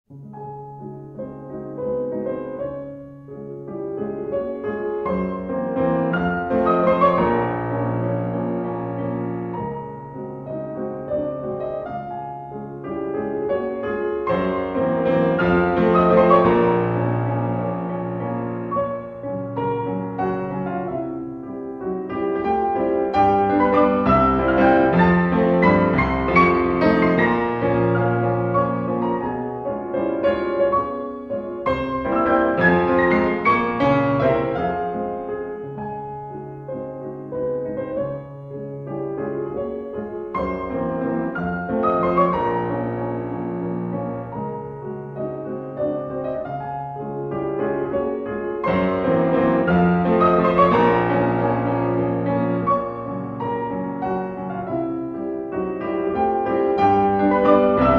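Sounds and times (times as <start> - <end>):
piano music: 0.1 - 57.9.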